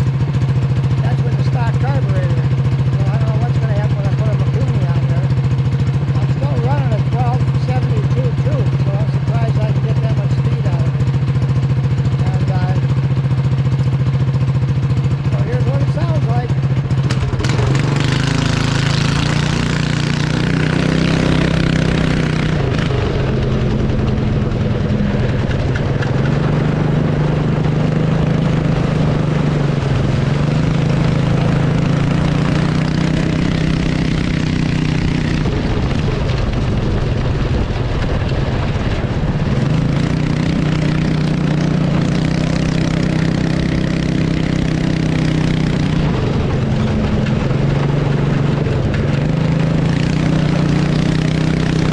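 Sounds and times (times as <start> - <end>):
loud barking kart engine: 0.0 - 51.9.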